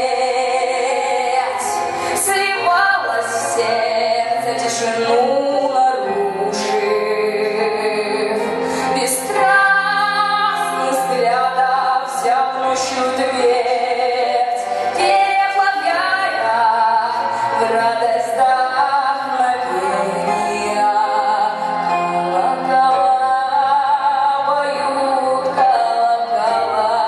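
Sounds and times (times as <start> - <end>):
woman singing: 0.0 - 27.0.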